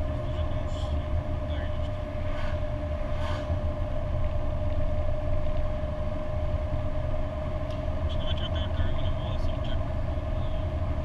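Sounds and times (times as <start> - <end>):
car engine drone: 0.0 - 11.0
road and tyre rumble: 0.0 - 11.0.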